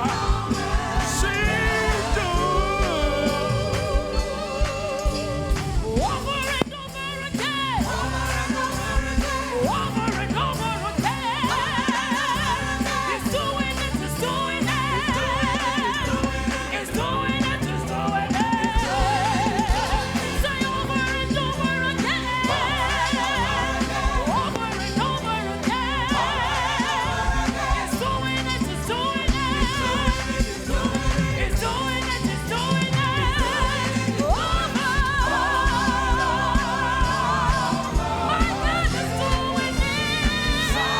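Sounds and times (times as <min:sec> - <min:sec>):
band with bass and drums: 0:00.0 - 0:40.9
gospel singing: 0:00.0 - 0:40.9.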